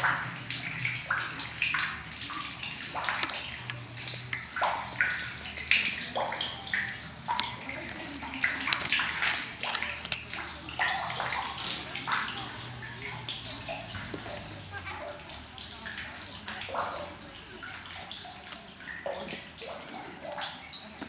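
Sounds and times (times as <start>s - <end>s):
water trickling over stone: 0.0s - 21.0s.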